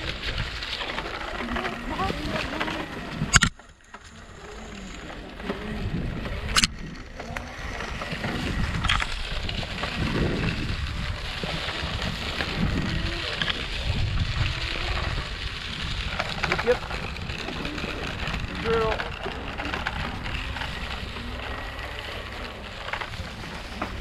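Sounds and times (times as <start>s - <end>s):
wind buffeting microphone: 0.0s - 3.6s, 4.2s - 24.0s
wheels rumbling over rough ground: 0.0s - 24.0s.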